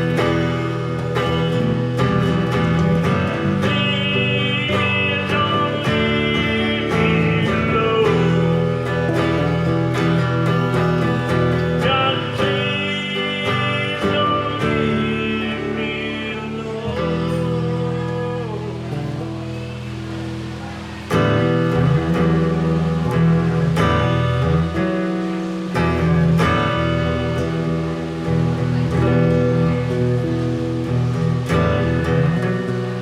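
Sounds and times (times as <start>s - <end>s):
live country guitar music: 0.0s - 33.0s.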